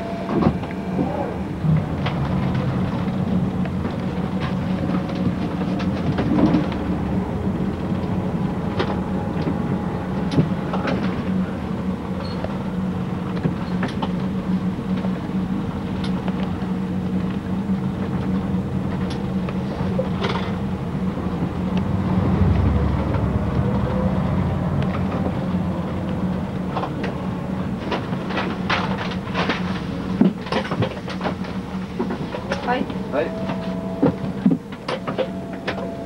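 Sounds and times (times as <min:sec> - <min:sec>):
bus engine humming: 0:00.0 - 0:36.0.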